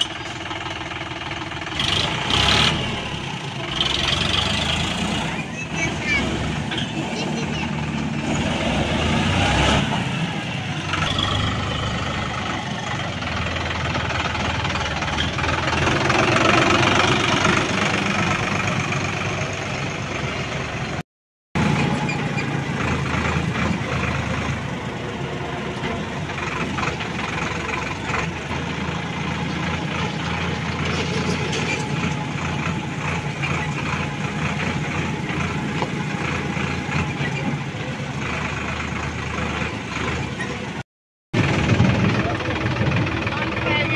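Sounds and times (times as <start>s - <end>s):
tractor diesel engine running: 0.0s - 21.0s, 21.6s - 43.9s.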